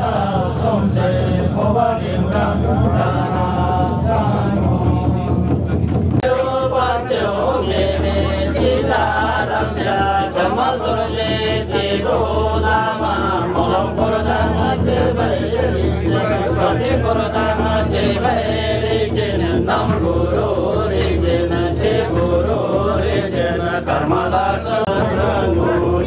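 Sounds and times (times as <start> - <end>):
men chanting together: 0.0 - 26.0.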